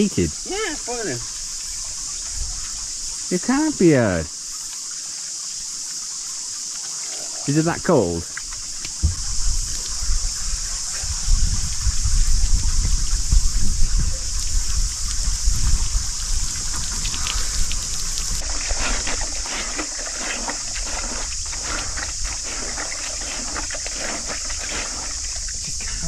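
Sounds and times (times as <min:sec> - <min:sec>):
high-pitched insect buzz: 0:00.0 - 0:26.0
shower water splashing: 0:00.0 - 0:26.0.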